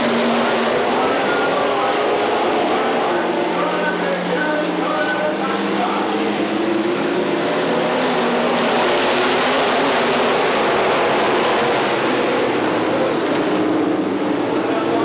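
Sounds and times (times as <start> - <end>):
race car engines at full throttle: 0.0 - 15.0.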